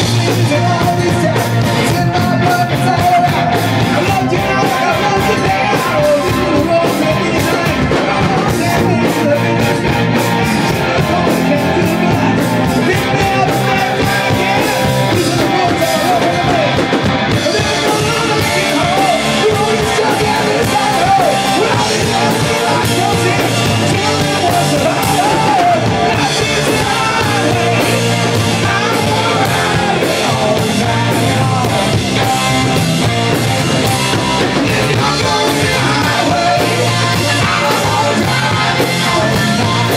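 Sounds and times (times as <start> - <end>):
drum kit: 0.0 - 39.9
electric guitars: 0.0 - 39.9
keyboard: 0.0 - 39.9
man singing into a microphone: 0.0 - 39.9.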